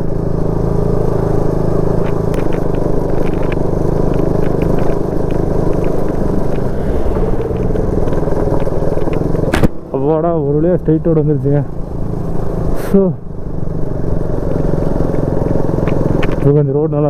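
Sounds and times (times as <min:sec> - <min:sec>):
motorcycle engine running: 0:00.0 - 0:17.0
rattles and knocks of bike: 0:01.0 - 0:06.8, 0:07.4 - 0:17.0.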